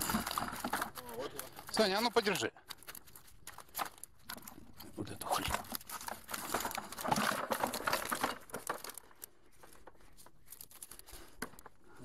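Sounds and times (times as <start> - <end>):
mesh net rustling and crackling: 0.0 - 12.0.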